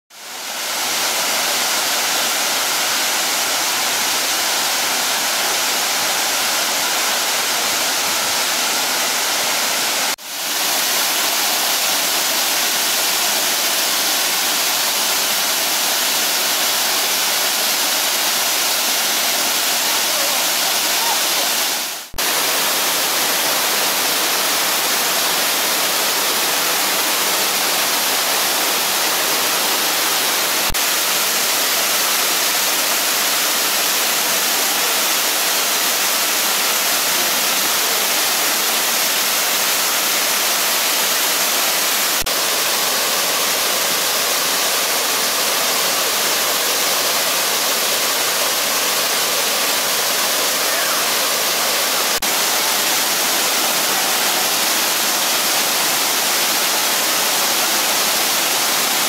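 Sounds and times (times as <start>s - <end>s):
waterfall rushing: 0.1s - 59.0s.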